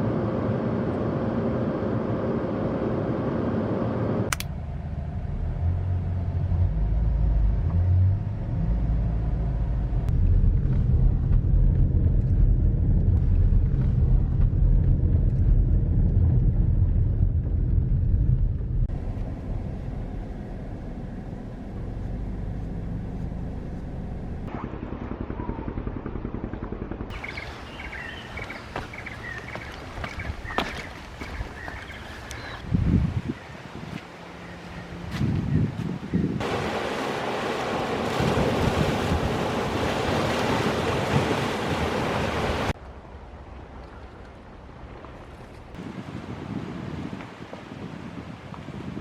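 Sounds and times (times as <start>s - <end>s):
moving vehicle rumble: 0.0s - 46.2s.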